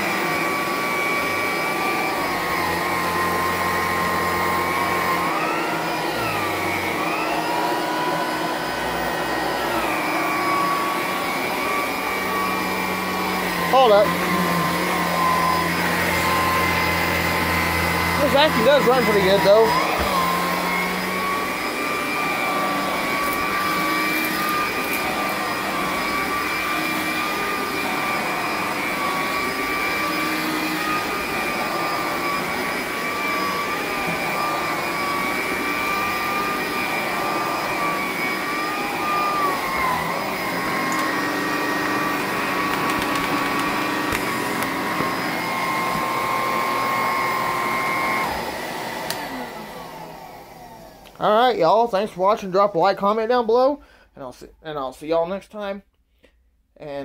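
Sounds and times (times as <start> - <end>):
vacuum cleaner motor whine: 0.0 - 51.4.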